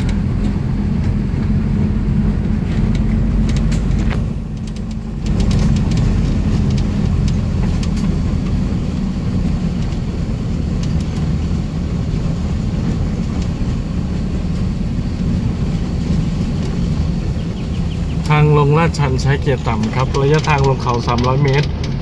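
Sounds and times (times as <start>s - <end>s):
car engine running: 0.0s - 22.0s
low road rumble: 0.0s - 22.0s.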